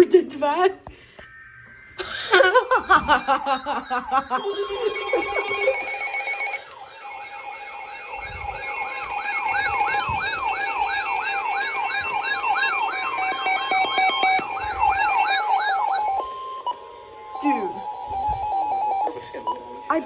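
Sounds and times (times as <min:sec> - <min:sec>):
electronic siren wailing: 0:01.0 - 0:20.0.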